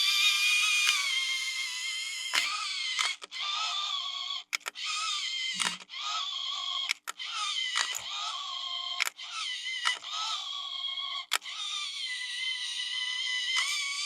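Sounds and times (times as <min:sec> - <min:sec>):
toy motor stop click: 0:00.0 - 0:10.5, 0:11.1 - 0:14.0
toy motor whining: 0:00.0 - 0:14.0.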